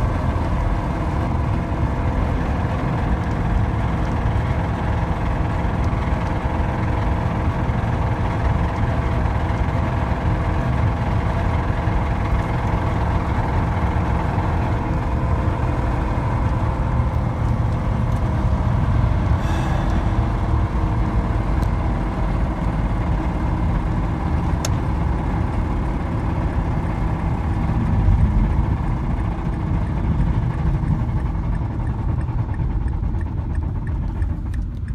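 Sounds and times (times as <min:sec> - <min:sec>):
engine running with rod knock: 0:00.0 - 0:34.9.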